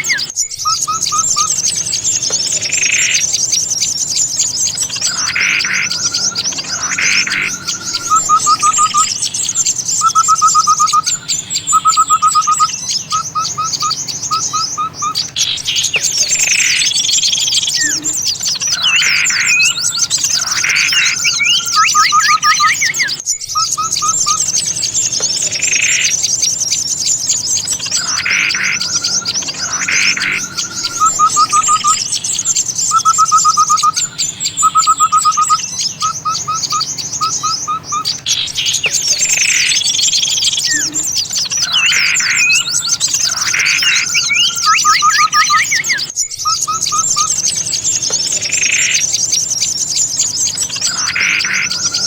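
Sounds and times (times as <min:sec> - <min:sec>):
rattling bird trills: 0:00.0 - 0:52.0
songbirds chattering: 0:00.0 - 0:52.0.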